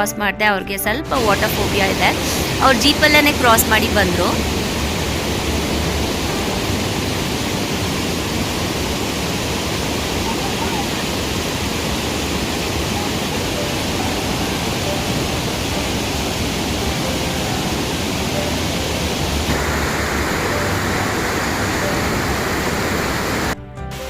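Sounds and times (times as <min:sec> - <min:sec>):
fast-flowing stream: 0:01.1 - 0:23.6.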